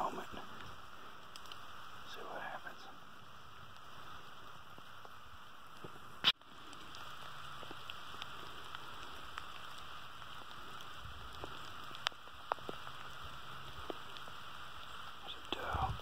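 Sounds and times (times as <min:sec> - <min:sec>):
rain falling on grass: 0:00.0 - 0:16.0
ticks of single raindrops: 0:00.5 - 0:02.5, 0:03.6 - 0:16.0.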